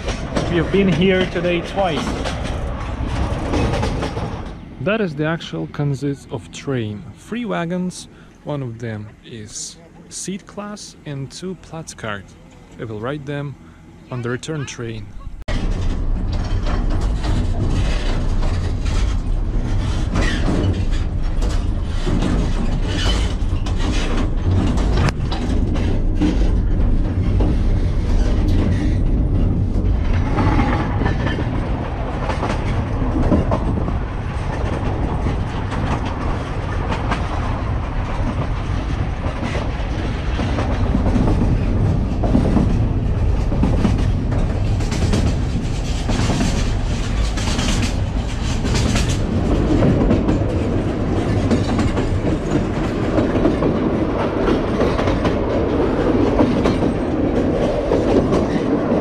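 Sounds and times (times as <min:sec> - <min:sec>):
train wheels clattering over joints: 0:00.0 - 0:05.7, 0:15.4 - 0:59.0.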